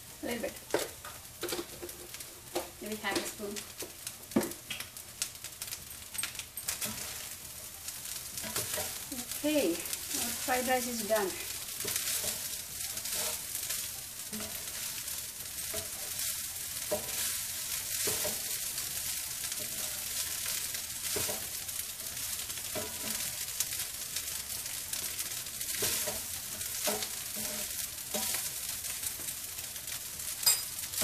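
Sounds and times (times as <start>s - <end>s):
rice sizzling in a pan: 0.0s - 31.0s
spatula scraping and tapping pan: 0.7s - 5.0s, 5.6s - 31.0s.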